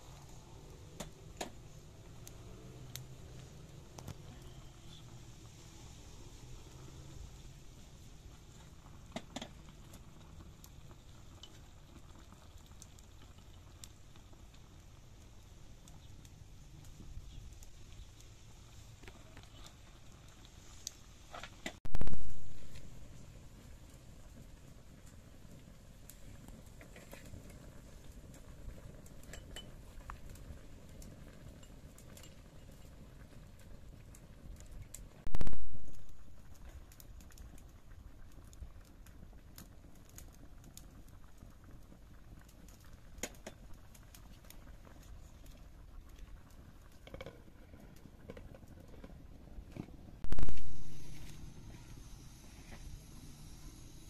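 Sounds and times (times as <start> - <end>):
pot simmering: 0.0 - 54.0
wood fire crackling: 0.0 - 54.0.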